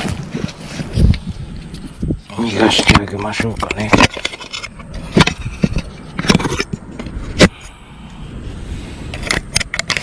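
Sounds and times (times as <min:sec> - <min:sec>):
rough scraping: 0:00.0 - 0:10.0.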